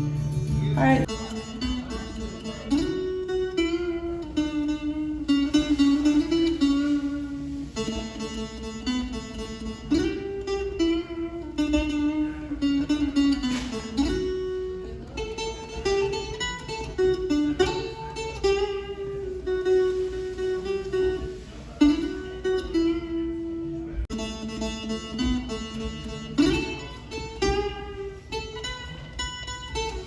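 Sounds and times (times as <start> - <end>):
one-string instrument plucked melody: 0.0 - 30.0.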